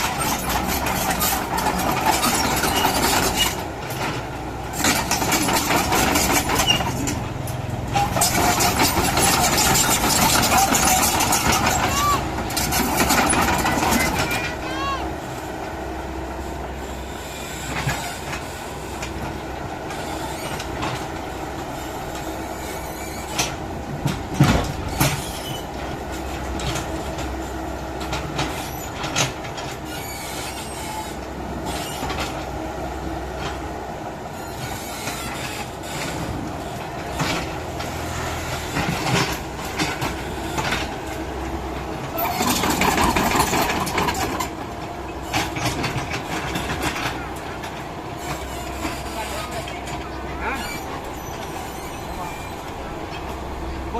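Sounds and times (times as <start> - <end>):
metal clanks and knocks: 0.0 - 14.6, 22.0 - 32.5, 34.6 - 53.9
excavator diesel engine: 0.0 - 53.9.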